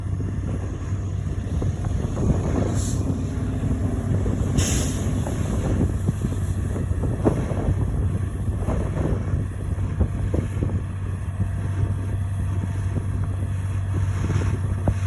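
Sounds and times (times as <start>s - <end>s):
tractor diesel engine under load: 0.0s - 15.0s
wind on microphone: 0.0s - 15.0s.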